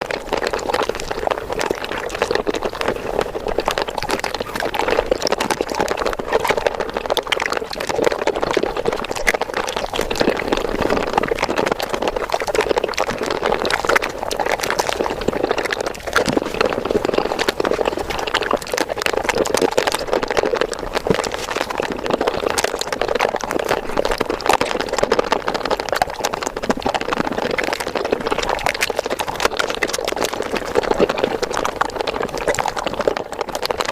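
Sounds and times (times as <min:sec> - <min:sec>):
sped-up chewing and mouth noises: 0:00.0 - 0:33.9.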